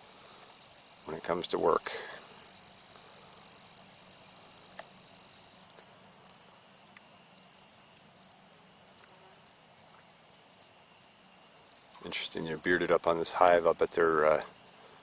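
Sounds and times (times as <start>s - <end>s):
insect short chirp: 0.0s - 15.0s
insects trilling: 0.0s - 15.0s.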